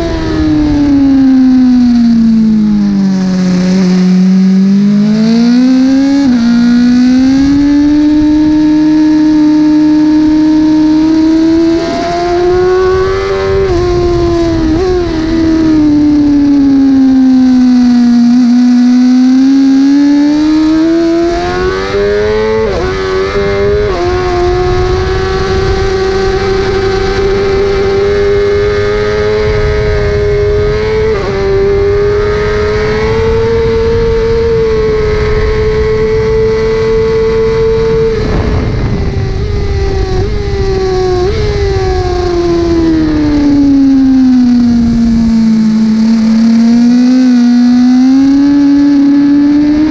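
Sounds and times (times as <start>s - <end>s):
motorcycle engine revving: 0.0s - 49.9s
wind noise rumbling: 0.0s - 49.9s.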